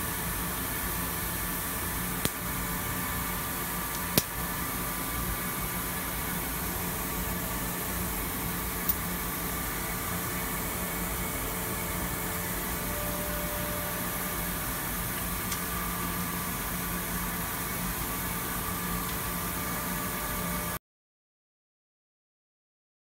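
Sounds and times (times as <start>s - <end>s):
machinery humming and hissing: 0.0s - 20.8s.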